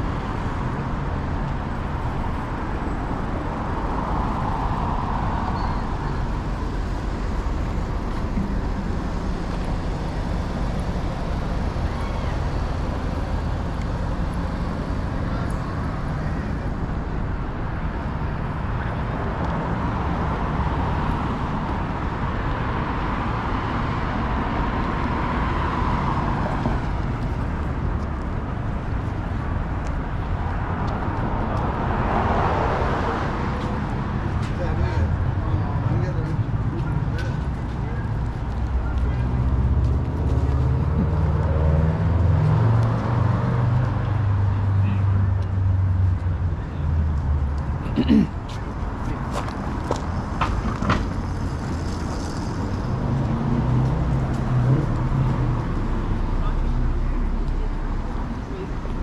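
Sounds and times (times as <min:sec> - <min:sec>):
traffic rumble: 0:00.0 - 0:59.0
vehicles passing: 0:00.0 - 0:59.0.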